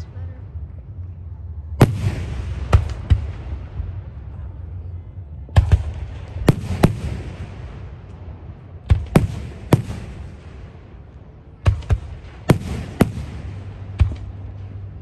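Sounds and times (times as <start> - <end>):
low rolling rumble: 0.0 - 15.0.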